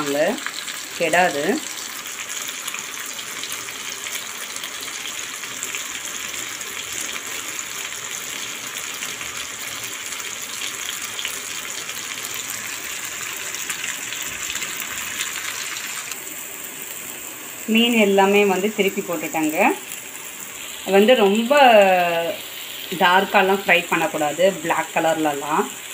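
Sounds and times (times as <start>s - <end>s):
fish sizzling in oil: 0.0s - 25.9s.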